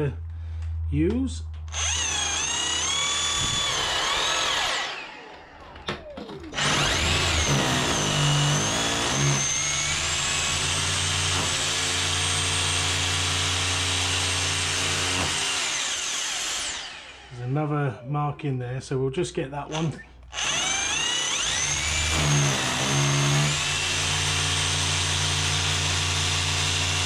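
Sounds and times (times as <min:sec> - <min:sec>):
hammer drill boring into wall: 0:01.7 - 0:17.4, 0:19.7 - 0:27.0.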